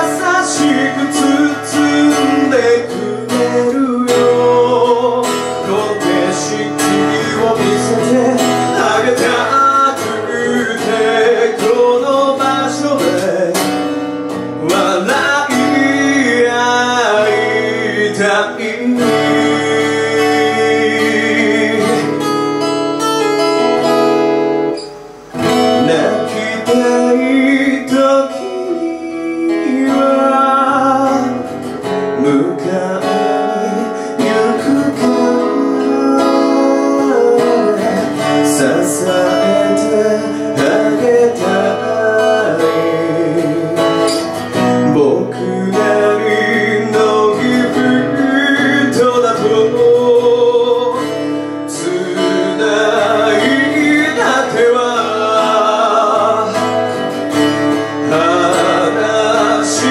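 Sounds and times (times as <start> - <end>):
man singing into microphone: 0.0 - 22.5, 25.5 - 59.9
acoustic guitar: 0.0 - 59.9.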